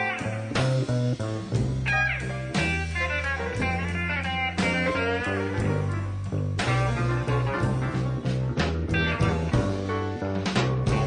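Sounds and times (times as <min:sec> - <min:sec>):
bass line: 0:00.0 - 0:11.0
lead guitar: 0:00.0 - 0:11.0.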